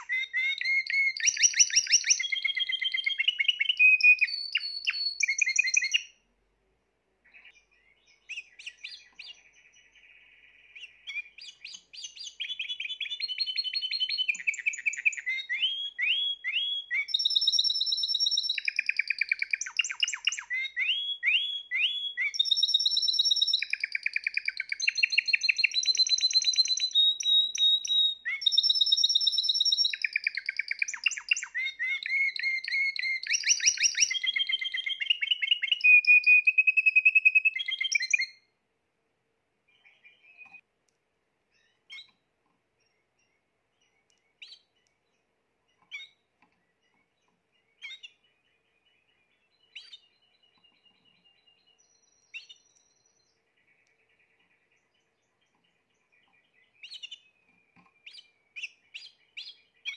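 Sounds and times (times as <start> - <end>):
canary singing trills: 0.0 - 6.2, 7.2 - 38.5, 41.5 - 42.2, 42.8 - 59.9.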